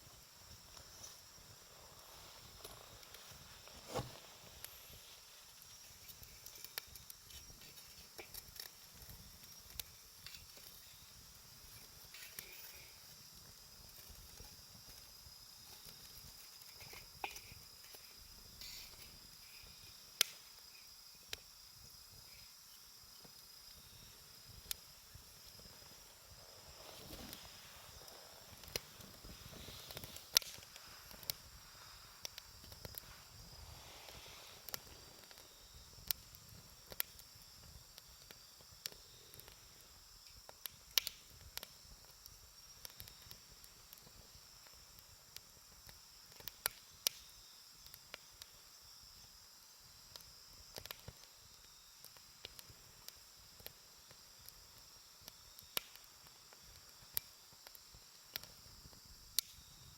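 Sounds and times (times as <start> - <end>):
wood fire crackling: 0.0 - 48.6, 49.9 - 59.9.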